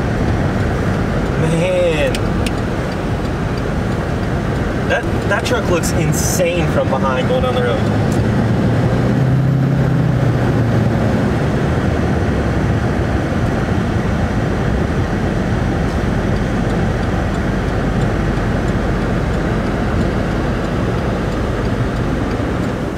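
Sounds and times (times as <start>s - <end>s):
vehicle road and engine noise: 0.0s - 22.9s.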